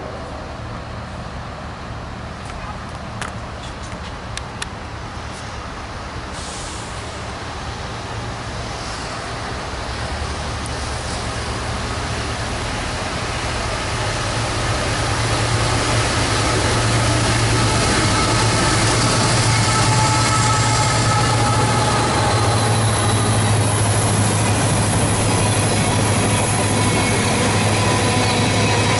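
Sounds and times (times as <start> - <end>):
diesel locomotive engine drone: 0.0 - 28.9
train rumble: 0.0 - 28.9.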